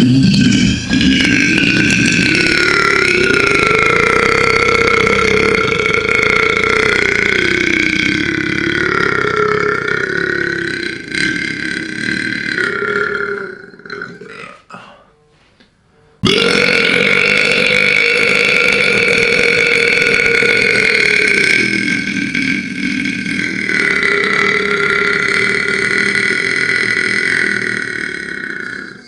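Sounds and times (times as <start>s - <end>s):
long loud burp: 0.0s - 15.1s, 16.2s - 29.0s.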